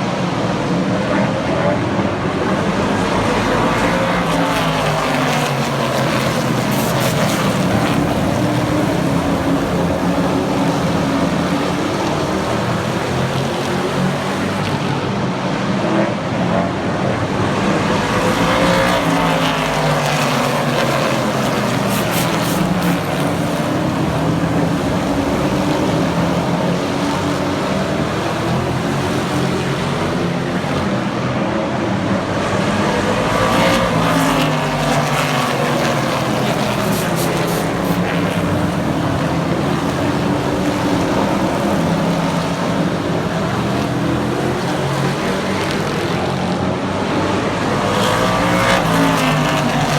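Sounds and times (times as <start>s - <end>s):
race truck engines passing: 0.0s - 49.9s.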